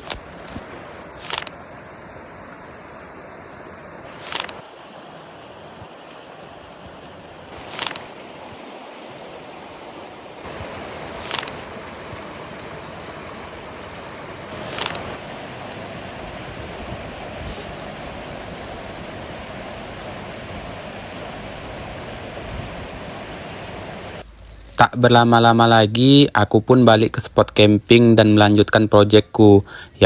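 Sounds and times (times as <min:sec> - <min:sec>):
lake water washing on shore: 0:00.0 - 0:24.3
wind: 0:00.0 - 0:30.0.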